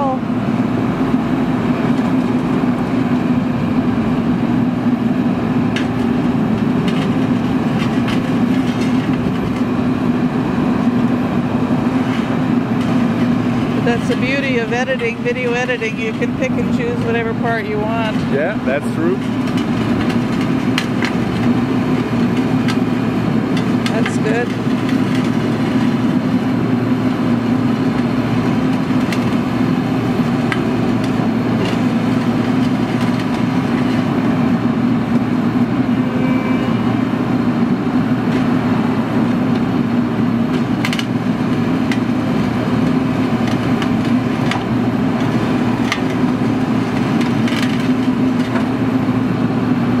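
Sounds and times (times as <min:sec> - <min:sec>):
machine engine and hydraulics drone: 0:00.0 - 0:50.0
asphalt cracking and crunching: 0:05.1 - 0:14.4, 0:15.1 - 0:35.7, 0:37.5 - 0:49.3.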